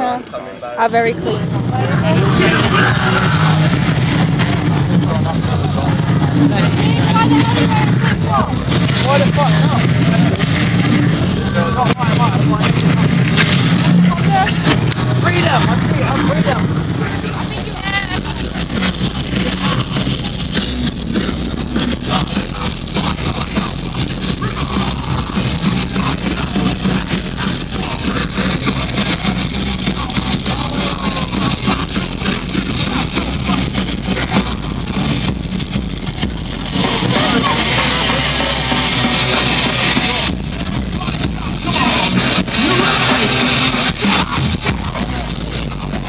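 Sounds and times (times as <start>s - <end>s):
heavy rock band playing loud: 0.8s - 46.0s.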